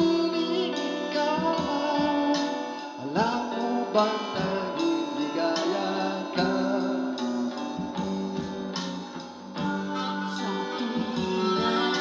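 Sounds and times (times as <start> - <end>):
instrumental music over loudspeaker: 0.0 - 12.0.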